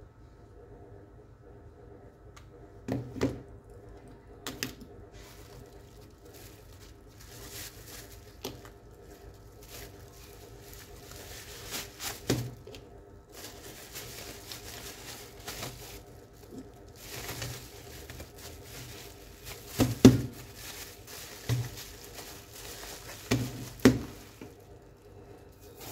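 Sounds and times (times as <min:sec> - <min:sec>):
bubble wrap and bag crinkling: 0:04.5 - 0:25.9.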